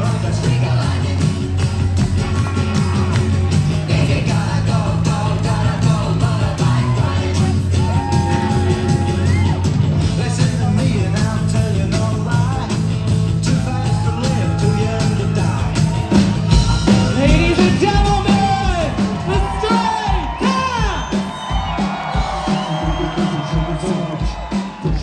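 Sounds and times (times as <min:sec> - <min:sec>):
rock and roll music: 0:00.0 - 0:25.0.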